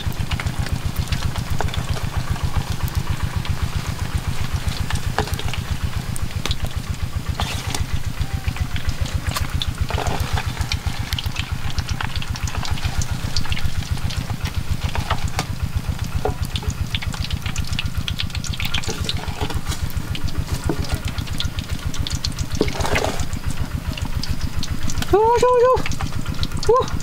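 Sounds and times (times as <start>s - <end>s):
eggs frying in oil: 0.0s - 27.0s
engine idling: 0.0s - 27.0s.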